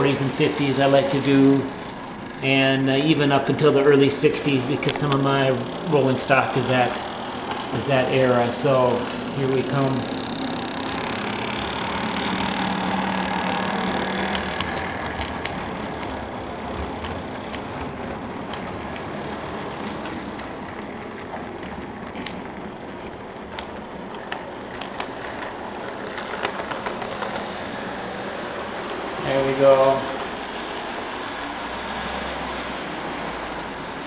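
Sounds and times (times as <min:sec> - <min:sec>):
model locomotive motor whirring: 0:00.0 - 0:34.0
wheels clicking on track: 0:00.0 - 0:34.0.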